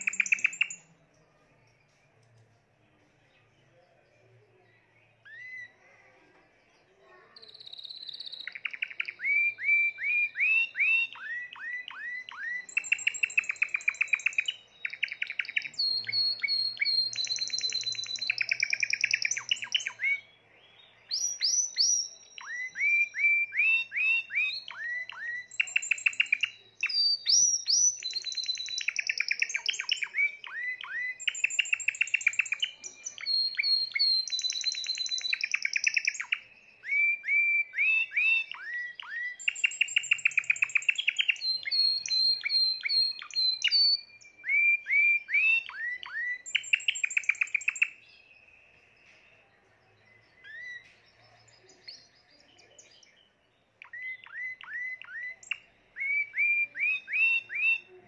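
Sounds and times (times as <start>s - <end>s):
canary singing trills: 0.0s - 1.9s, 4.6s - 49.2s, 49.9s - 58.0s.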